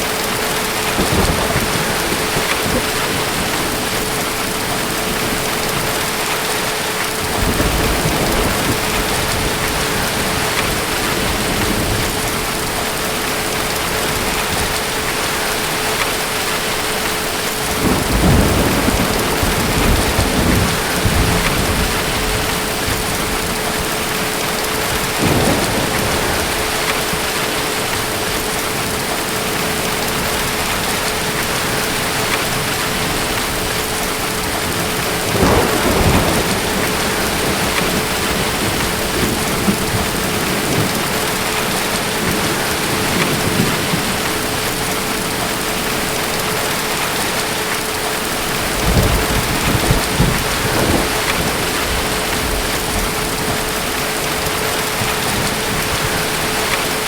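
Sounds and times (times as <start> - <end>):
distant thunder rumbles: 0.0 - 47.5, 48.3 - 57.0
heavy rain falling: 0.0 - 57.0.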